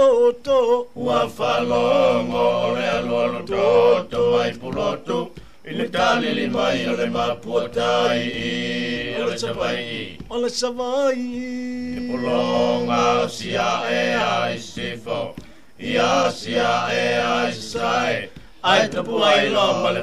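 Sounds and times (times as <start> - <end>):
men singing chant-like song: 0.0 - 20.0.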